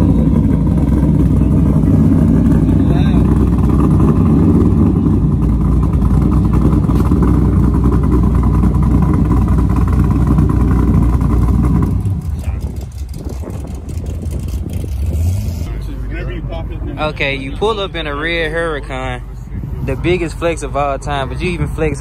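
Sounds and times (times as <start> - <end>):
car engine idling rumble: 0.0 - 22.0.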